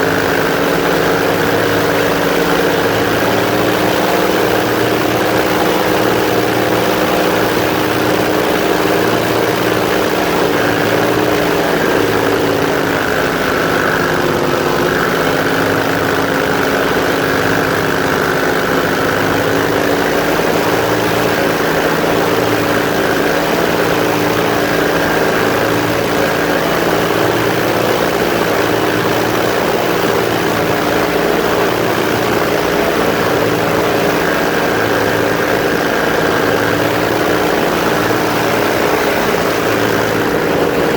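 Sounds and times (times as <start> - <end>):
airboat engine and propeller: 0.0 - 40.9.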